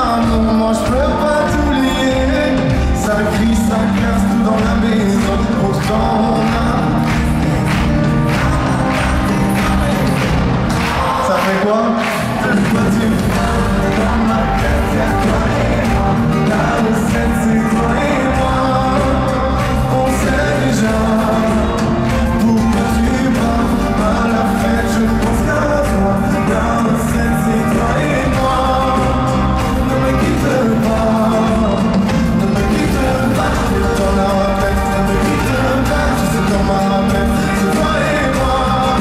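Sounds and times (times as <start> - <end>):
live pop band: 0.0 - 39.0
man singing: 0.0 - 39.0.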